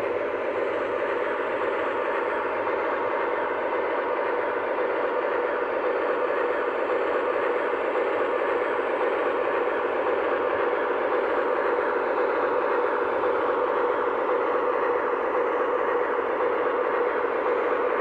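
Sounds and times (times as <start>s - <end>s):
model train diesel engine sound: 0.0s - 18.0s.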